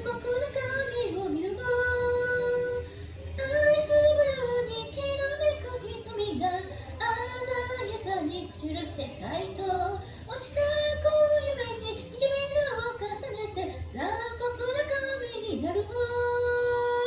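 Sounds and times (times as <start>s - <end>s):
woman singing a cappella: 0.0s - 17.0s.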